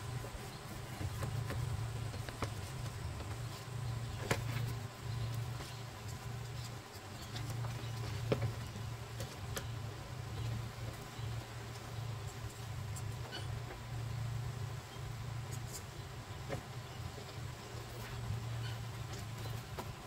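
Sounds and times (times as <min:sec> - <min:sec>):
low wavering buzz: 0:00.0 - 0:20.0.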